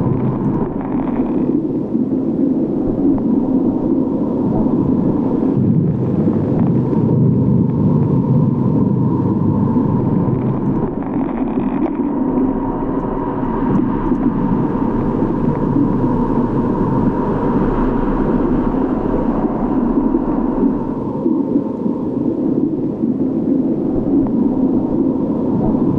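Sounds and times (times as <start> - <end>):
low rumbling drone: 0.0 - 25.9.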